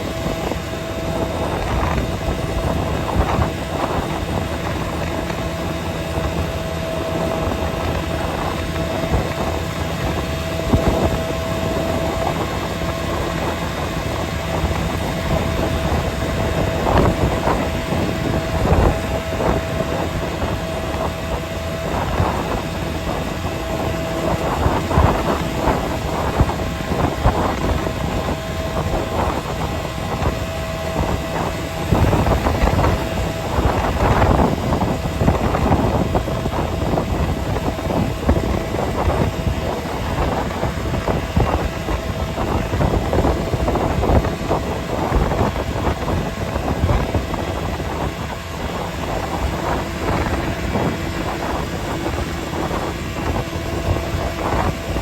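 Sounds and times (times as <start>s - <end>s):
vehicle engine and road noise: 0.0s - 55.0s
wind on microphone: 0.0s - 55.0s.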